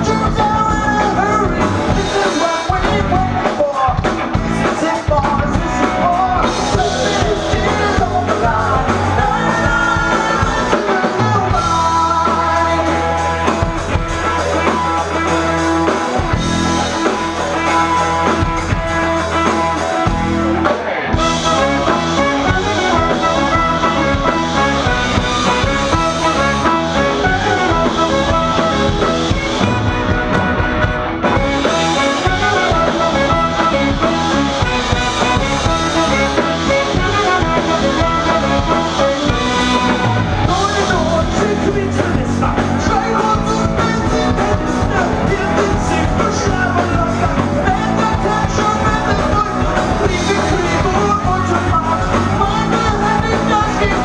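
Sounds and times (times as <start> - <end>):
live rock band with horns: 0.0 - 54.0.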